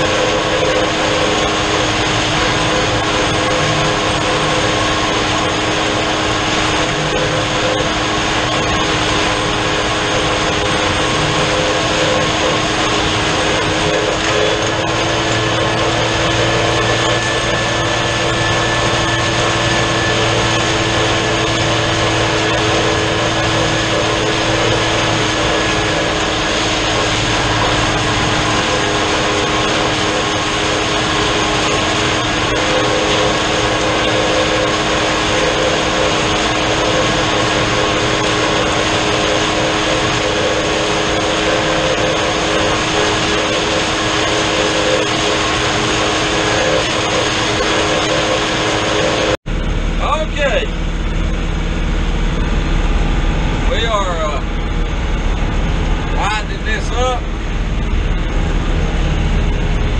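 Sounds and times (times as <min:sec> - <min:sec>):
drum mower spinning: 0:00.0 - 0:59.9
tractor diesel engine running: 0:00.0 - 0:59.9.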